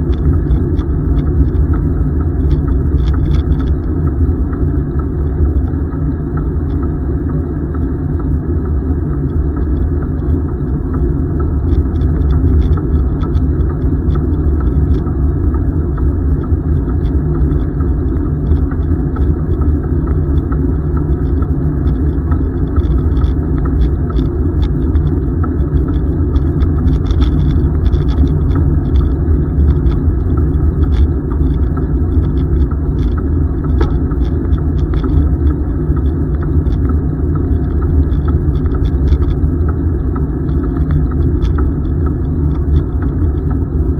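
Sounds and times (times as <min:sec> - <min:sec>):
faint ticks: 0:00.0 - 0:43.9.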